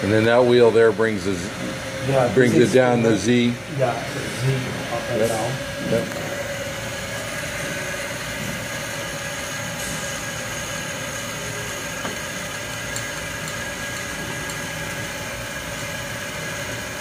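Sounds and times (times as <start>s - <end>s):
grinder spindle humming: 0.0s - 17.0s.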